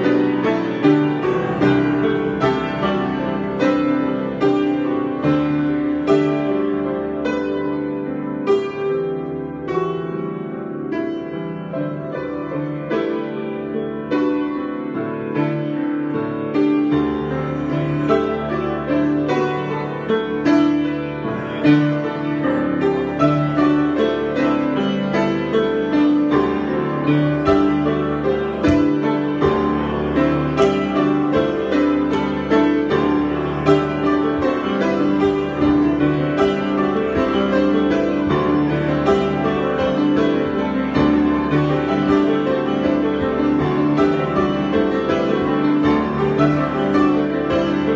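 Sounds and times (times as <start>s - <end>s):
solo piano improvisation: 0.0s - 47.9s.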